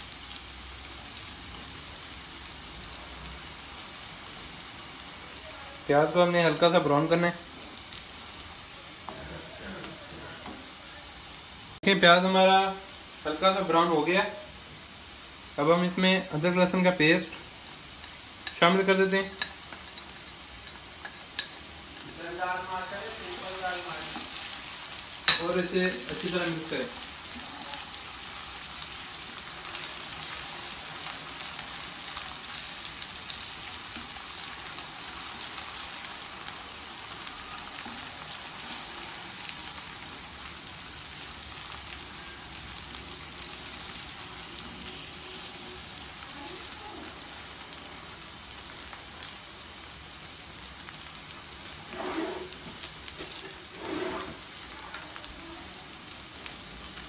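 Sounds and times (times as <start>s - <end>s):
onion sizzling in oil: 0.0s - 57.0s.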